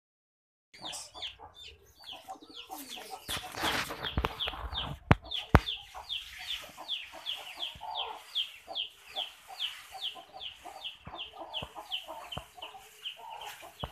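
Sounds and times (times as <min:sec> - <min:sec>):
chickens peeping and clucking: 0:00.8 - 0:13.9
rustling: 0:02.8 - 0:13.9.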